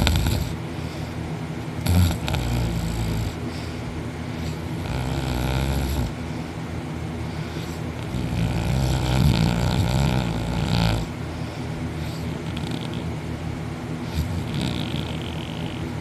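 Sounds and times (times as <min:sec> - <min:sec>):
man snoring heavily: 0:00.0 - 0:01.2, 0:01.8 - 0:06.4, 0:07.2 - 0:13.2, 0:14.0 - 0:16.0.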